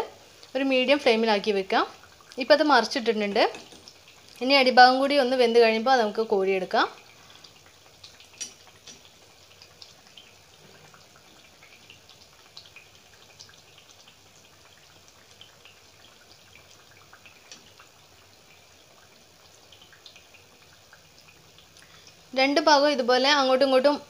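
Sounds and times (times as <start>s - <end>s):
soft frying hiss: 0.0s - 24.0s.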